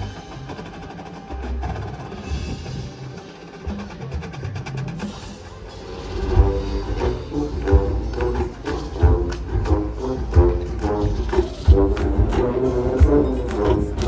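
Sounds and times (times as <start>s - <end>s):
mallet percussion notes: 0.0s - 14.0s.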